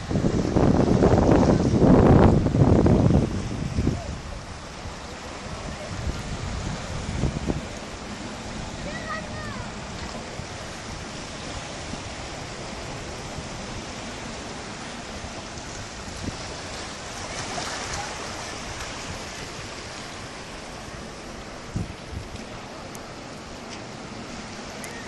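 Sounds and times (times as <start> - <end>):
sea water lapping at shore: 0.0 - 25.0
wind on microphone: 0.0 - 25.0.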